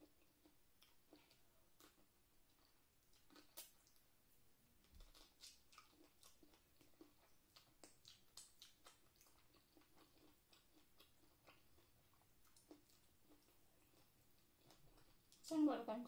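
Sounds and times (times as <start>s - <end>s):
mouth chewing and smacking: 0.0s - 4.1s, 4.8s - 15.5s.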